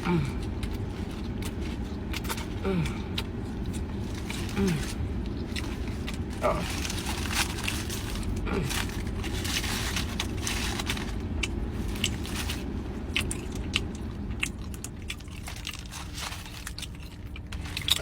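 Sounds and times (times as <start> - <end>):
low background rumble: 0.0 - 18.0
person chewing crunchy food: 0.0 - 18.0.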